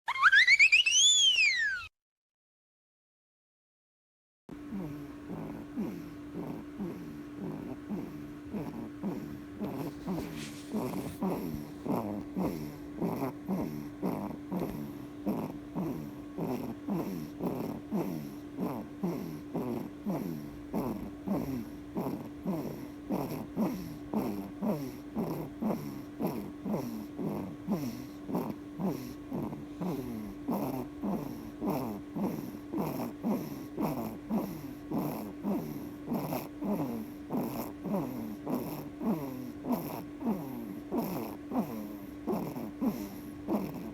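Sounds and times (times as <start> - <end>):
baby snoring: 4.6 - 43.9.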